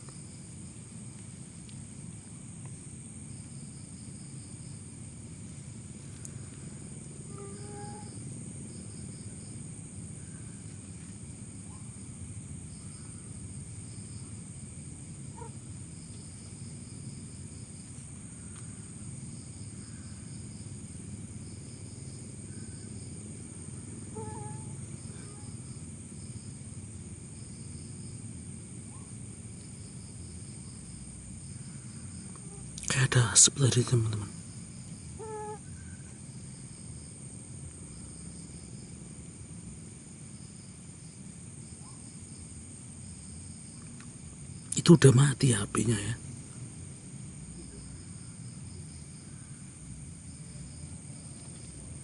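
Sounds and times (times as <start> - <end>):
high insect whine: 0.0 - 52.0
insects chirping: 0.0 - 52.0.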